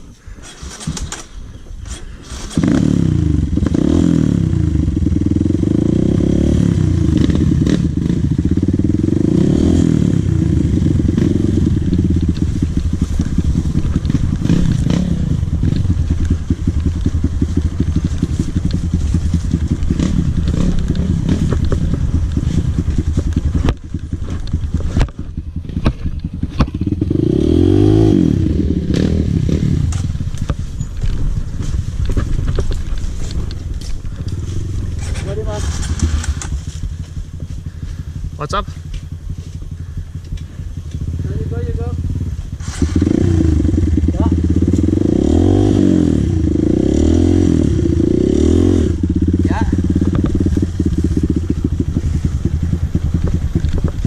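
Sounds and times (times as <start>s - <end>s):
dirt bike engine revving: 0.4s - 54.0s.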